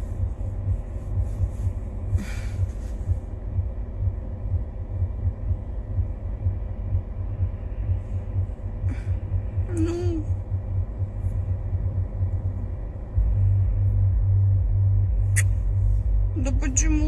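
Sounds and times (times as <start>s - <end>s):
pulsing rumble inside car: 0.0s - 17.0s.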